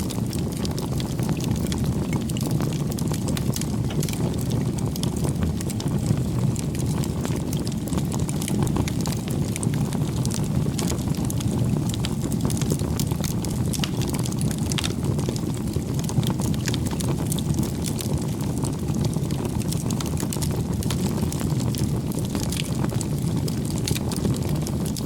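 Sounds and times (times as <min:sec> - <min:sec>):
bonfire burning: 0:00.0 - 0:25.0
fire crackling and popping: 0:00.0 - 0:25.0.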